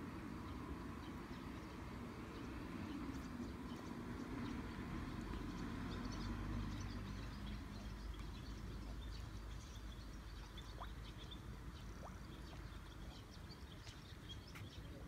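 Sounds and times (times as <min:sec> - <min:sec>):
road traffic rumble: 0:00.0 - 0:15.0
small birds chirping: 0:01.0 - 0:15.0.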